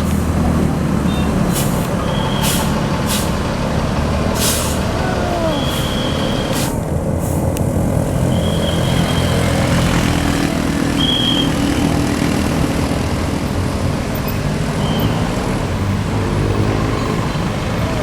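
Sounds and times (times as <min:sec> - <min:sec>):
diesel bus engine droning: 0:00.0 - 0:18.0.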